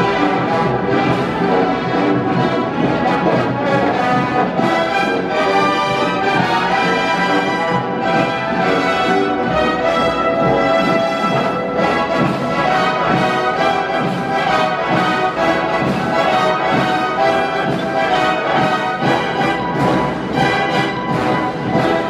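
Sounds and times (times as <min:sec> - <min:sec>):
wind band playing: 0:00.0 - 0:22.0.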